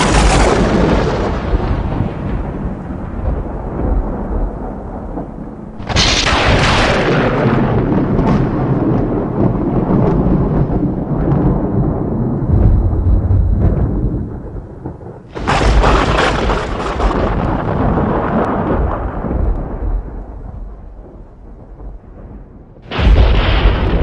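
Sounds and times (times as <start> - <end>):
sharp thunderclap: 0.0 - 24.0
thunder rumbling: 0.0 - 24.0.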